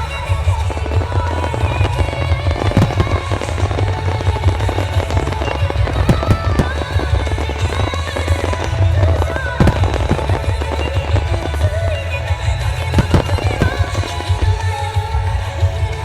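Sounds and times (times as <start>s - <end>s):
fireworks bursts and crackles: 0.0s - 16.0s
music playing: 0.0s - 16.0s.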